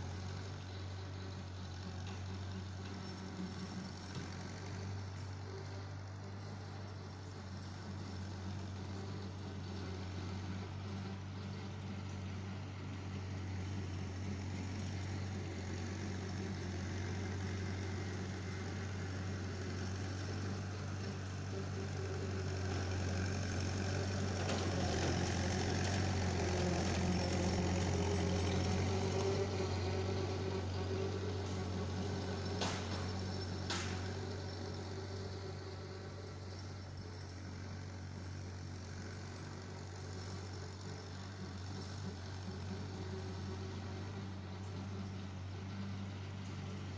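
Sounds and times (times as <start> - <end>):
tractor engine passing: 0.0 - 46.9.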